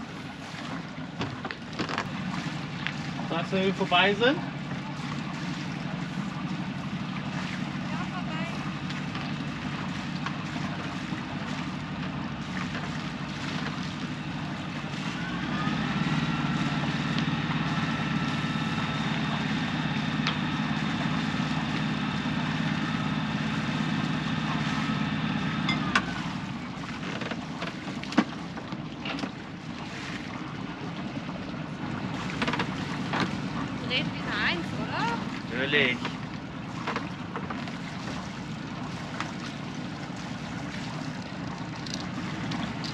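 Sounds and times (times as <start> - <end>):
boat engine running: 0.0 - 42.9
steady engine whine: 0.9 - 42.9.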